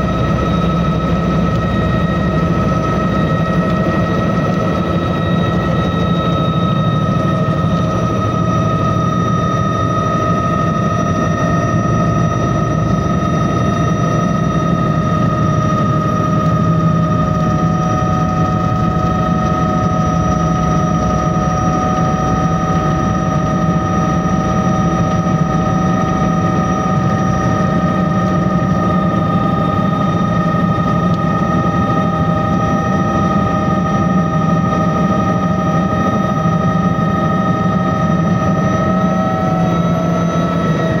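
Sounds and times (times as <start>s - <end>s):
helicopter turbine whine: 0.0s - 41.0s
rotor low rumble: 0.0s - 41.0s.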